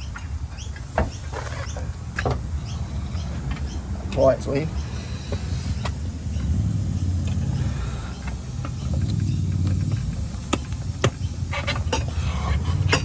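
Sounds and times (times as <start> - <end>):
steady low rumble: 1.9 - 12.8.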